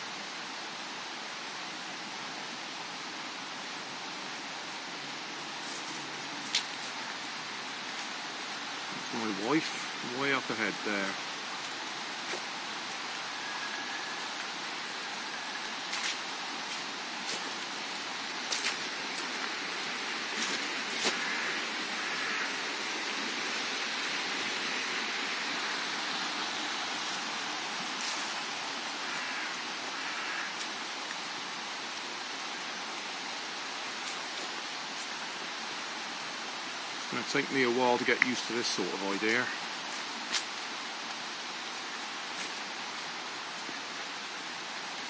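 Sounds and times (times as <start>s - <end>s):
stream rushing: 0.0s - 45.0s.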